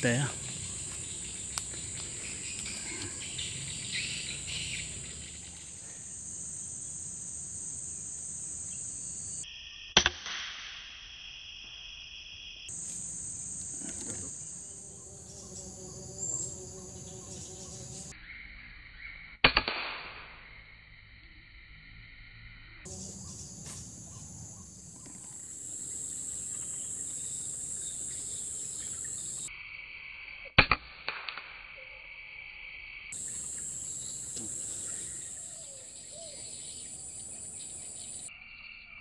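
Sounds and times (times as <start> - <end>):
insects chirring: 0.0 - 10.0, 10.8 - 19.4, 20.3 - 30.5, 31.5 - 39.0.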